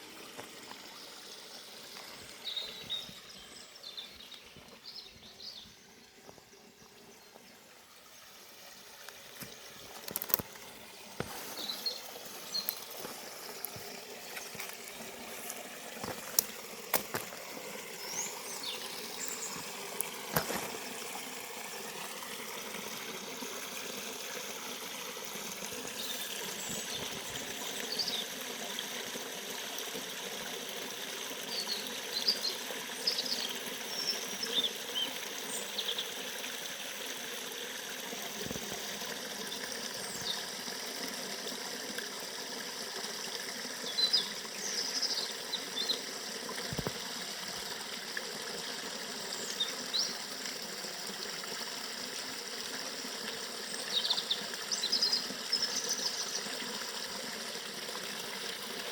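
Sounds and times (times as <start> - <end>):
river running: 0.0 - 58.9.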